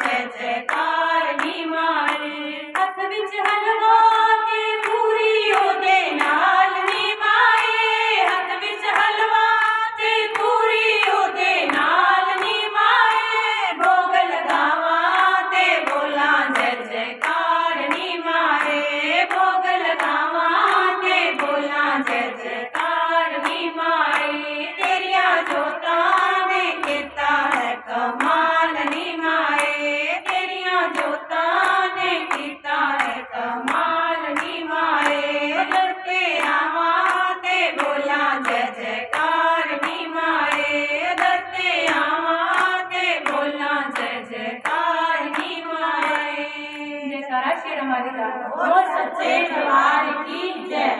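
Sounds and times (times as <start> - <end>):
hand claps keeping time: 0.0 - 47.0
women singing devotional song: 0.0 - 50.9.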